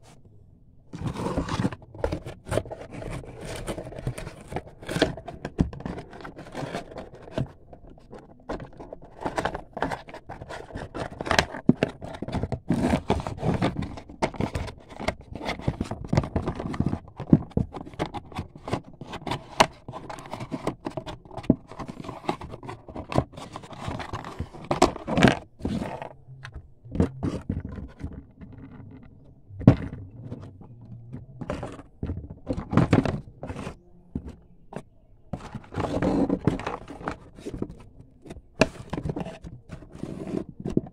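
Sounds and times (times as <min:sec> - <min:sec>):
cardboard box scraping and knocking: 0:01.0 - 0:40.9.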